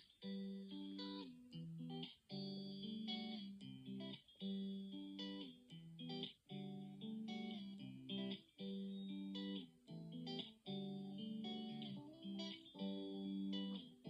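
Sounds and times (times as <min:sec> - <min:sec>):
plucked guitar melody: 0:00.0 - 0:14.0.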